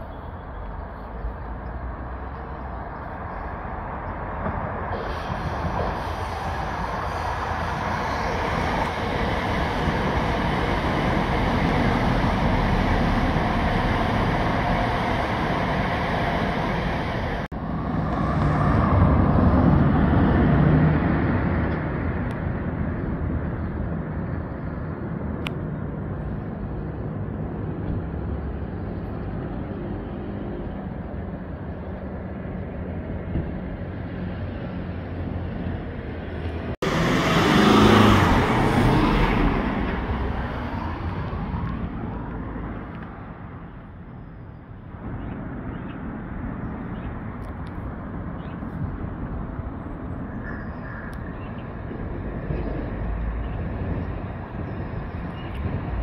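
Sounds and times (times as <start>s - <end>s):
electric train rumbling past: 0.0s - 56.0s.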